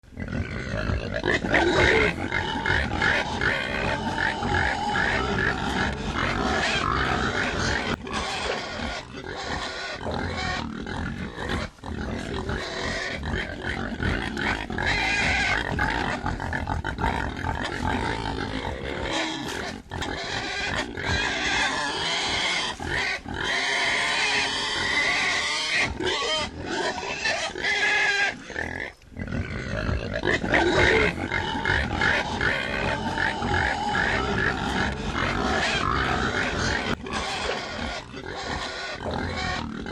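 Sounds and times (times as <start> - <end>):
pigs grunting and snuffling: 0.1 - 39.9
pig squeals: 0.2 - 39.9.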